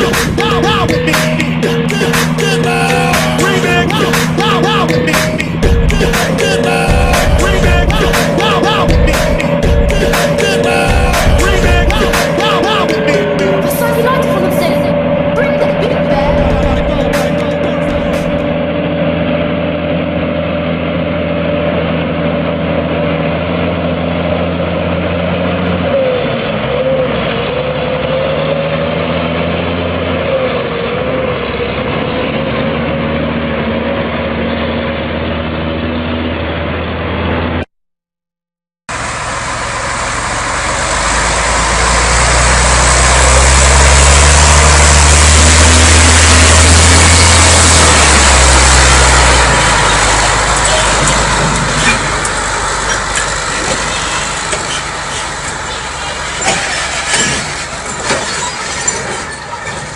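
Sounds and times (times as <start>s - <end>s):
heavy truck engines running: 0.0s - 37.7s, 38.9s - 59.9s.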